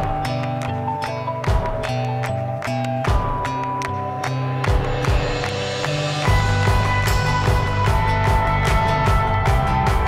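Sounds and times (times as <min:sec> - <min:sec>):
music with drum beat: 0:01.4 - 0:10.0.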